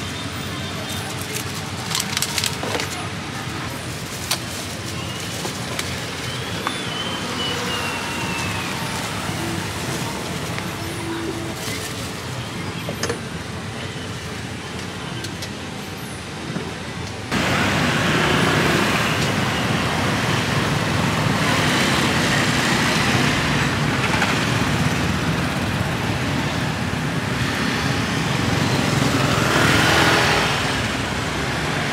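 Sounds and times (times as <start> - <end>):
road traffic passing: 0.0 - 31.9.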